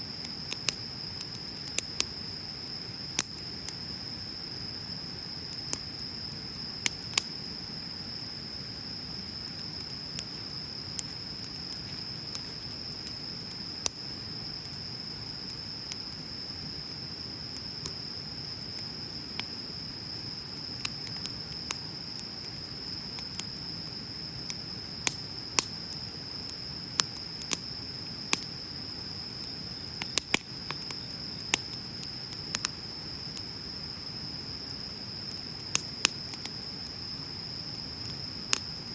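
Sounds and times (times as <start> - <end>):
bonfire crackling and popping: 0.0 - 38.9
insect trill: 0.0 - 38.9.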